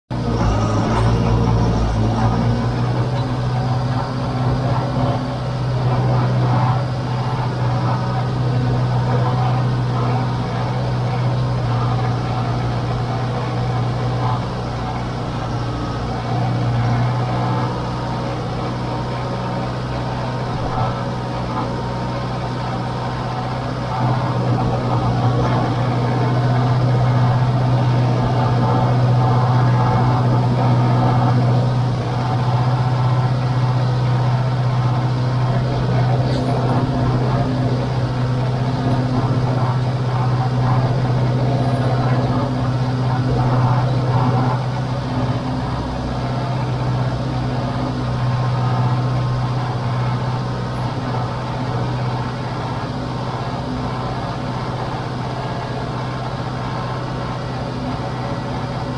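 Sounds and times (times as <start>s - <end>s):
diesel engine low drone: 0.1s - 58.9s.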